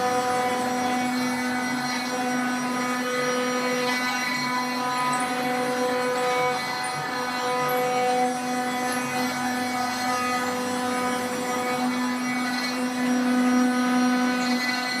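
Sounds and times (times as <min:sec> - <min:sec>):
machine motor whine: 0:00.0 - 0:15.0.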